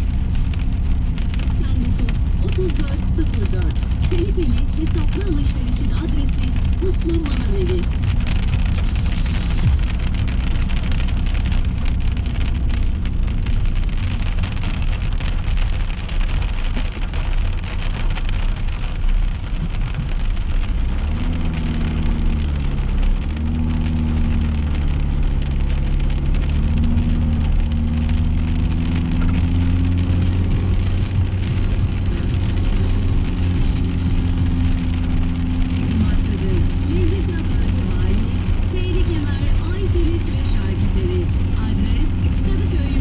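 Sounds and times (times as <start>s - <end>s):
rain on a moving car: 0.0s - 43.0s.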